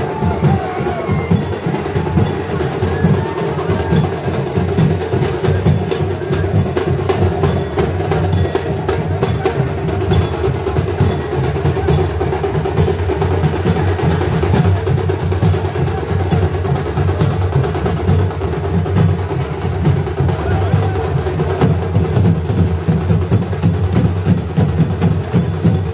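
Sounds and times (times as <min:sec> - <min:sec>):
drums playing a dense beat: 0:00.0 - 0:25.9.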